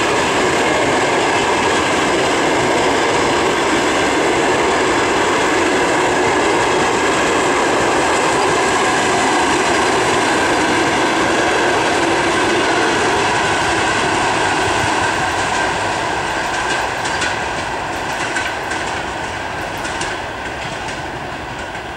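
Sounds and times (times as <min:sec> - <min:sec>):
train wheels rumbling on track: 0:00.0 - 0:21.9.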